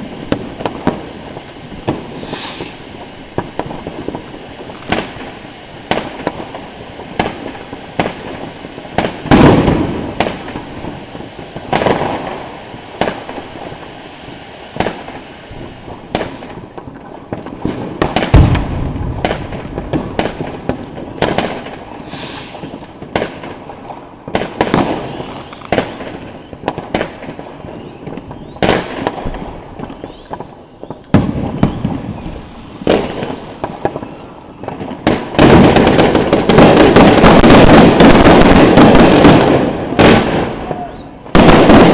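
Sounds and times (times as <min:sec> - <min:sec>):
fireworks popping and banging: 0:00.0 - 0:41.9
steady hiss: 0:00.0 - 0:41.9.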